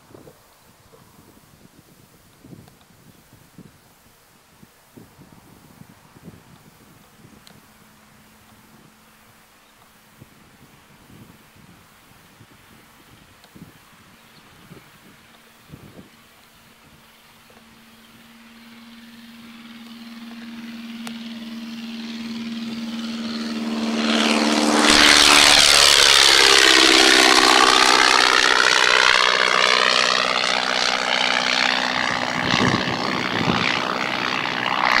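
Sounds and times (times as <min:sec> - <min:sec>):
biplane engine flying past: 0:05.0 - 0:35.0.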